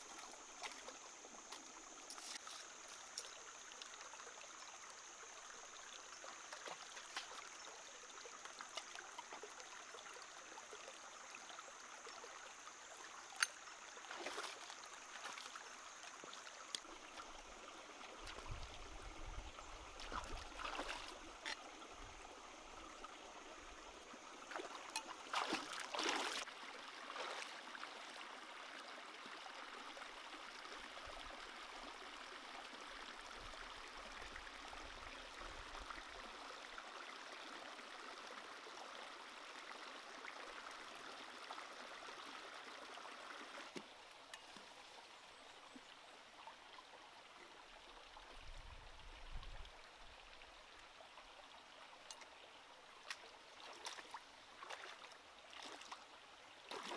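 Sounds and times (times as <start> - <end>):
stream trickling: 0.0 - 56.9.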